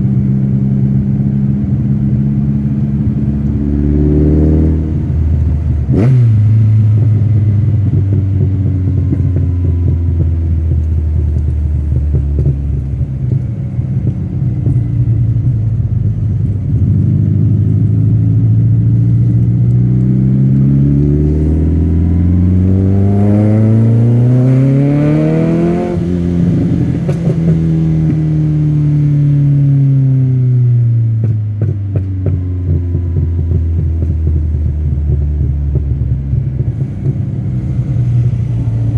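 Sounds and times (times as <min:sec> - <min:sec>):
car engine revving: 0:00.0 - 0:38.9
exhaust crackles: 0:00.0 - 0:38.9.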